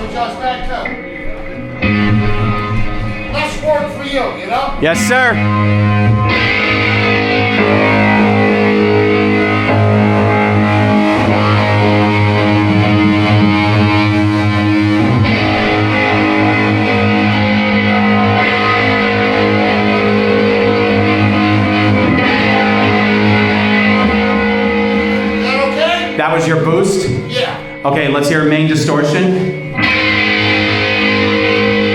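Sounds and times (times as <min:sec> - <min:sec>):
distorted electric guitar: 0:00.0 - 0:31.9.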